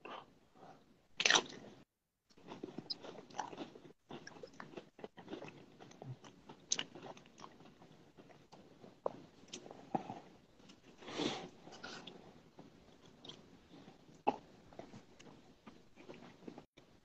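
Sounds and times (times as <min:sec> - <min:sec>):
person chewing food: 0:02.3 - 0:11.0, 0:11.7 - 0:16.7.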